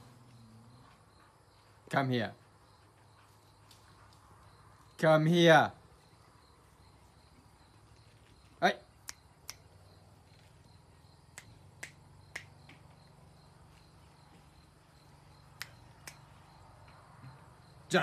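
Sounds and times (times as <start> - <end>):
insects chirping faintly: 0.0 - 18.0.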